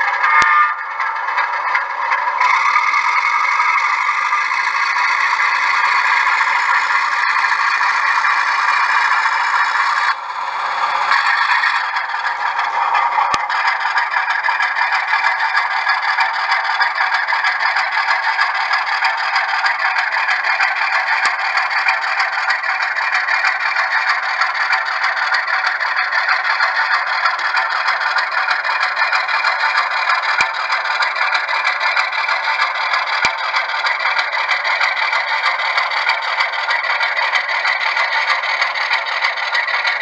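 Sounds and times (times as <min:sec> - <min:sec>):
model train wheels rattling on rails: 0:00.0 - 0:40.0.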